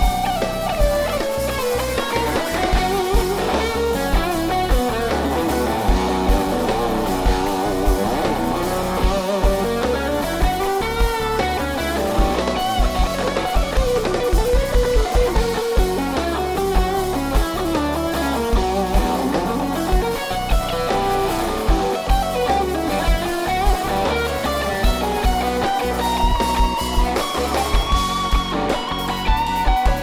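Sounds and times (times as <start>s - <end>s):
electric guitar lead: 0.0s - 30.0s
live rock band playing: 0.0s - 30.0s.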